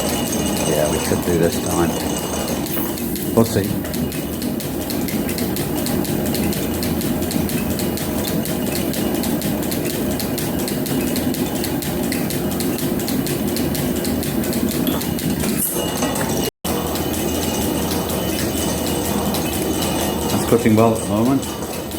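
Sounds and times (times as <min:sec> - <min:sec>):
fast even ticking: 0:00.0 - 0:21.9
metal planer running: 0:00.0 - 0:21.9.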